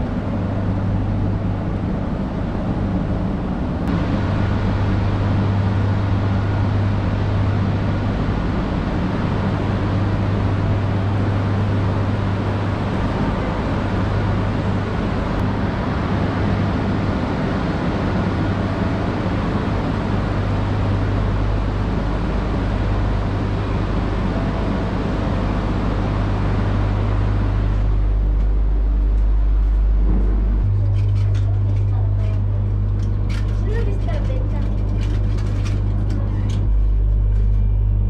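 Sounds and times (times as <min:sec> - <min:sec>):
deep rumble: 0:00.0 - 0:38.0
stopped train equipment hum: 0:00.0 - 0:38.0.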